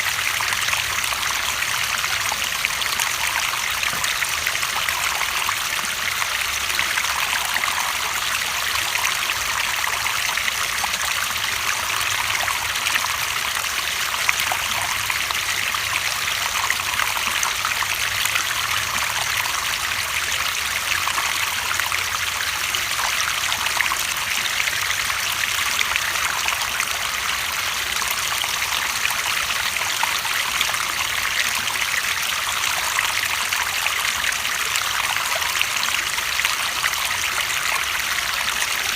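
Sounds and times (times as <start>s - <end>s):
running water trickling and splashing: 0.0s - 38.9s.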